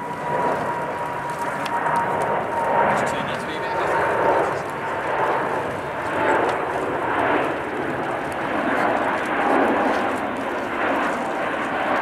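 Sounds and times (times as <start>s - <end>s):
jet engines rushing overhead: 0.0s - 12.0s.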